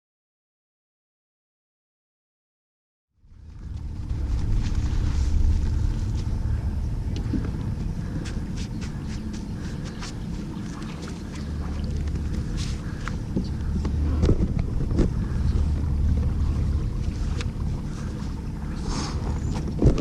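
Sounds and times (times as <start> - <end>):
wind buffeting microphone: 3.3 - 20.0.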